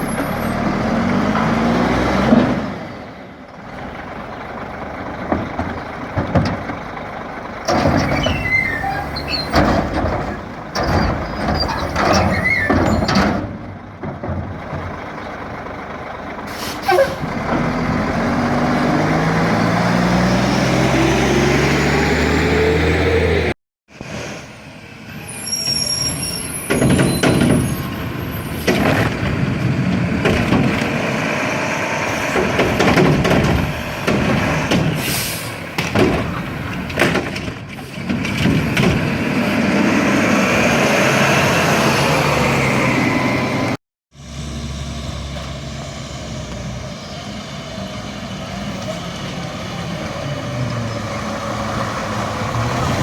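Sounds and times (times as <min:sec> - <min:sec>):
diesel engine revving: 0:00.0 - 0:24.8, 0:27.0 - 0:53.0.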